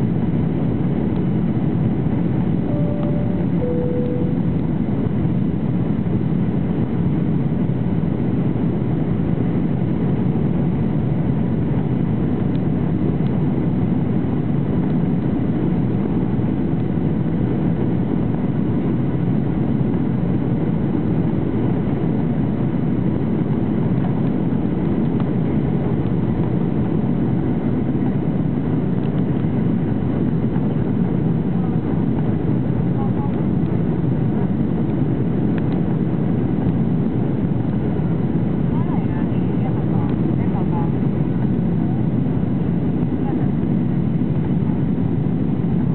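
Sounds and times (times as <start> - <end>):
airplane cabin engine noise: 0.0 - 45.9.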